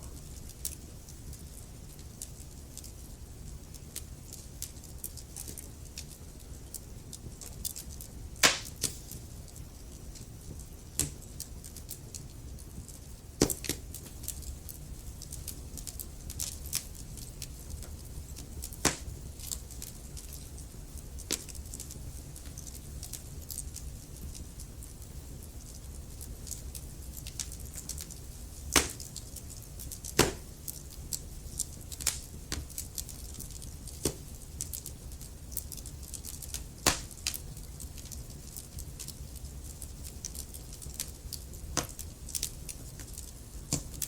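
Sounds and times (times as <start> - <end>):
logs crackling in a fireplace: 0.0 - 44.0.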